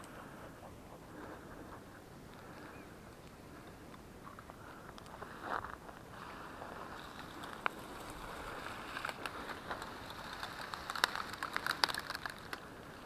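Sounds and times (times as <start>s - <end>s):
dry grass rustling and snapping: 2.3s - 13.0s.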